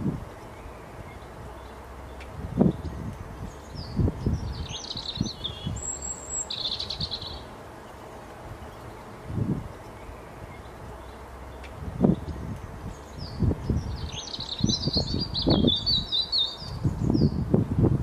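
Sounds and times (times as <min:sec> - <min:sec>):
songbird chirps and trills: 0:00.0 - 0:18.0.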